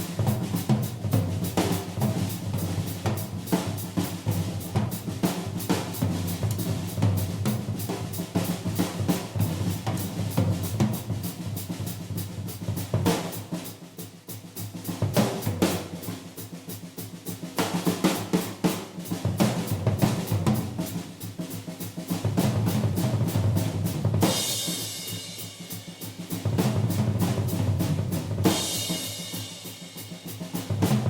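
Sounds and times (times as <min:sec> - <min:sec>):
drum kit played hard: 0:00.0 - 0:31.0.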